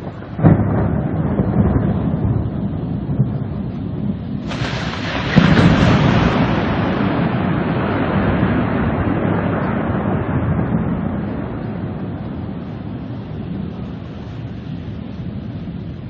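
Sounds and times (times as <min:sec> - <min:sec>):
thunder rumbling and cracking: 0:00.0 - 0:16.0.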